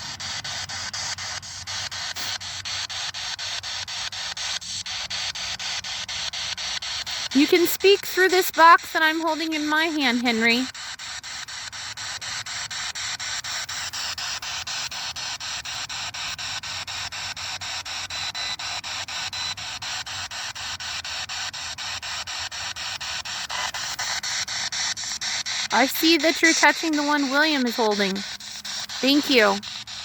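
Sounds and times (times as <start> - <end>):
pulsing radio static hiss: 0.0 - 30.0.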